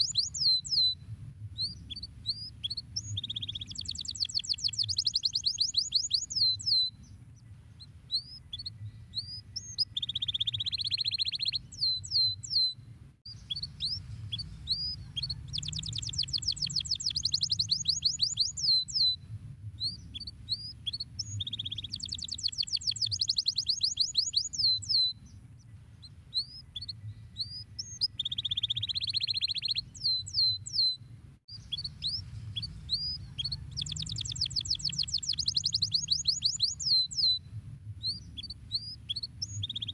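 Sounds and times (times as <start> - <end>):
canary singing: 0.0 - 1.0, 1.6 - 19.2, 19.8 - 37.4, 38.0 - 39.9.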